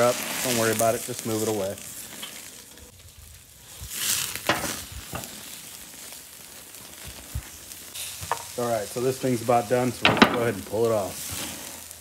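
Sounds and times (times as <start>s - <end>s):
steak sizzling over charcoal: 0.0s - 12.0s.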